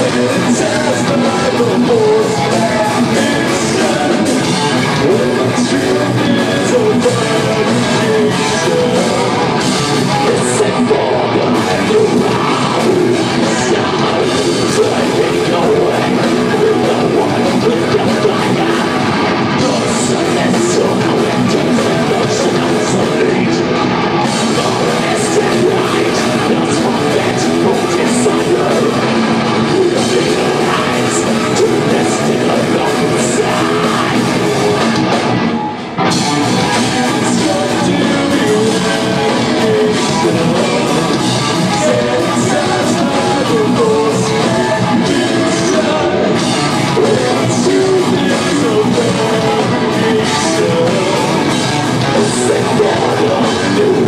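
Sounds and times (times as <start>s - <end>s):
drums: 0.0s - 54.0s
electric guitars: 0.0s - 54.0s
singer's vocals: 0.0s - 54.0s.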